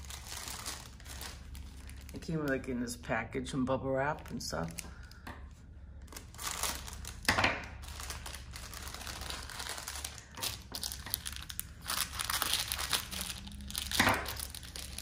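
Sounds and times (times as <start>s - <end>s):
plastic packaging crinkling: 0.0s - 3.0s, 4.0s - 15.0s.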